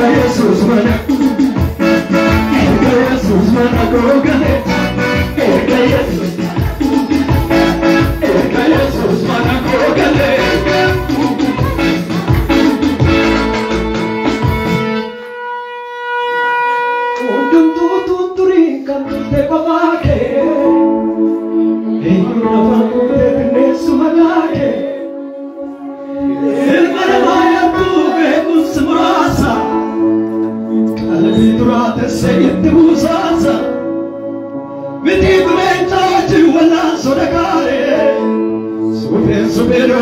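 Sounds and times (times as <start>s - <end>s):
man singing into a microphone: 0.0s - 12.1s, 17.2s - 40.0s
backing instruments holding chords: 0.0s - 15.6s, 19.0s - 40.0s.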